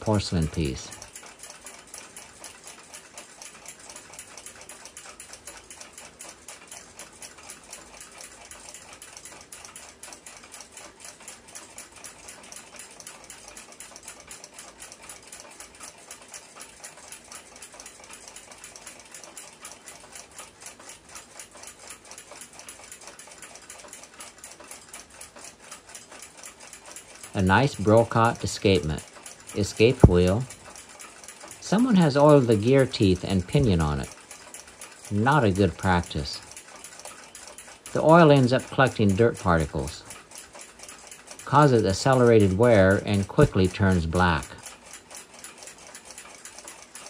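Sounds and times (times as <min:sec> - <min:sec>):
clock ticking fast: 0:00.0 - 0:47.0.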